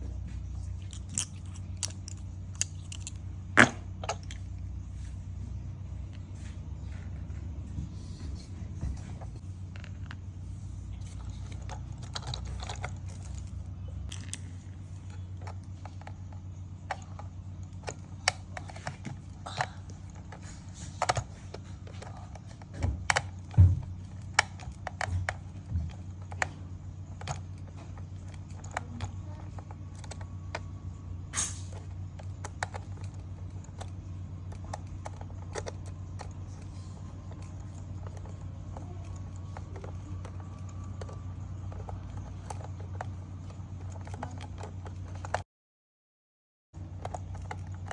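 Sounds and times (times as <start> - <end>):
steady low hum: 0.0 - 45.4, 46.8 - 47.9
hard plastic clicking: 0.8 - 4.5, 11.0 - 30.7, 31.4 - 45.4, 46.8 - 47.9.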